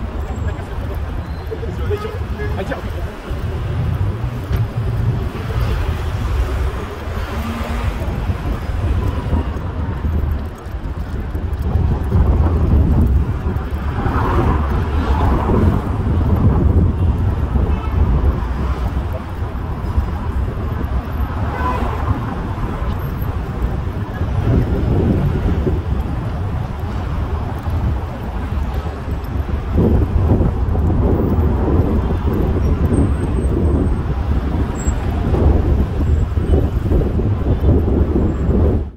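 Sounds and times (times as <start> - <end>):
road traffic noise: 0.0 - 38.9
wind buffeting microphone: 0.0 - 38.9.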